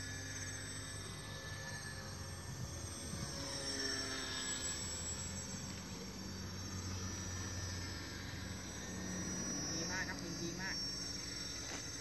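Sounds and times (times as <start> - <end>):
model plane motor droning: 0.0 - 12.0.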